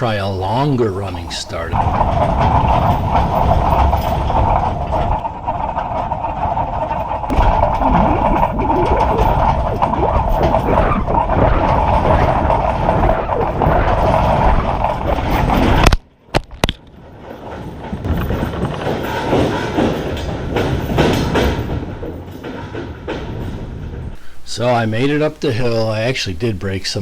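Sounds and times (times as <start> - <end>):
tyres rolling over loose rock: 0.0 - 26.2.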